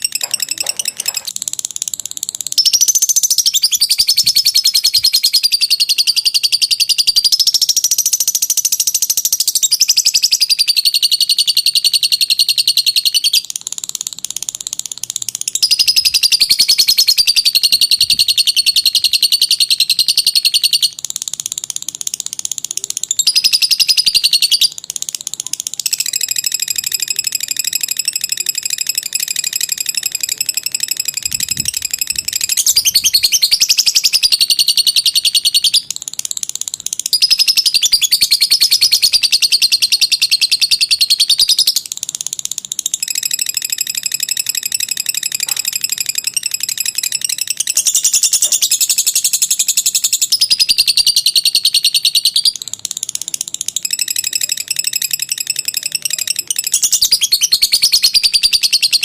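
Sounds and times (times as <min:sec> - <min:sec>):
bird chattering trill: 0:00.0 - 0:59.0.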